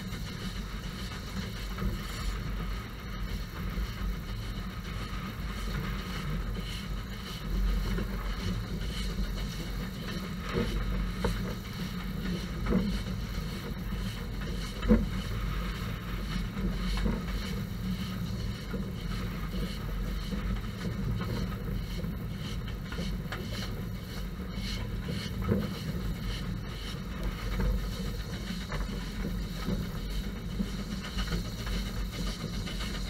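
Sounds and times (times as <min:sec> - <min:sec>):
railway carriage rumble: 0:00.0 - 0:33.0.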